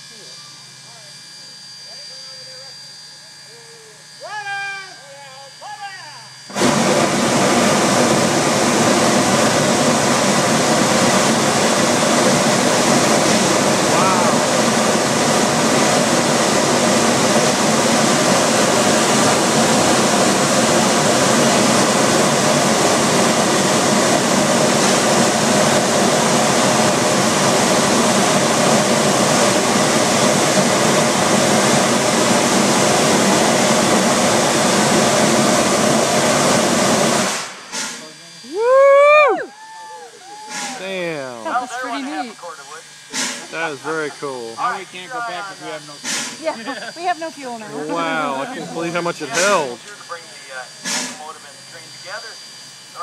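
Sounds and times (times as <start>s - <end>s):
steam blasting from valve: 6.4s - 39.4s, 40.3s - 41.4s, 42.6s - 53.0s.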